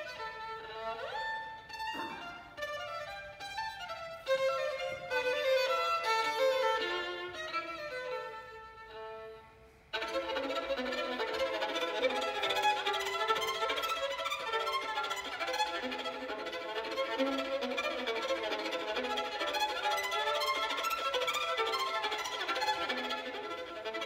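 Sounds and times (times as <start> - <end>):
solo violin bowed: 0.0 - 24.0.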